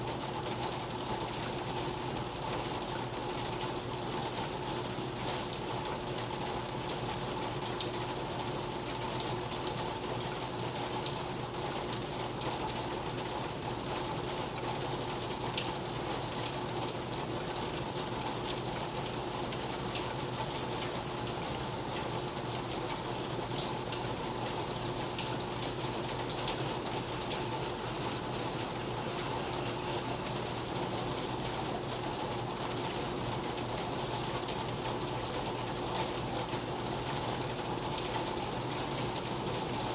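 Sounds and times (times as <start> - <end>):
faint constant hum: 0.0 - 39.9
raindrops ticking on surfaces: 0.0 - 39.9
rainfall: 0.0 - 39.9.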